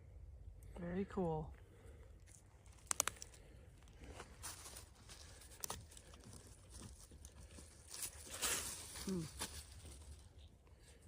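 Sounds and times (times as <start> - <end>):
faint outdoor rustling: 0.0 - 11.0.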